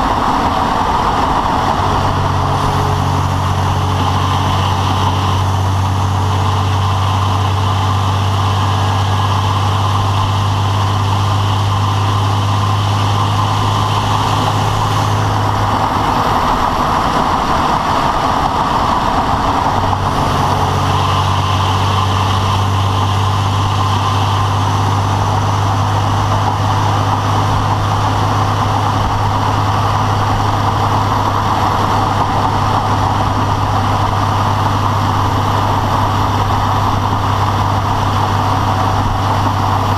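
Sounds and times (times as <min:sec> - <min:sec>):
engine rattling: 0:00.0 - 0:39.9
steady low hum: 0:00.0 - 0:39.9.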